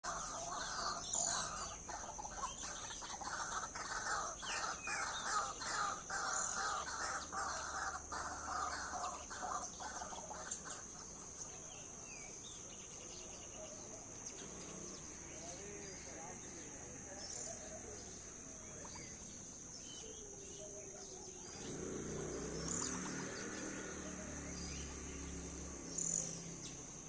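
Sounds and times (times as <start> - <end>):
birds chattering: 0.0 - 27.0.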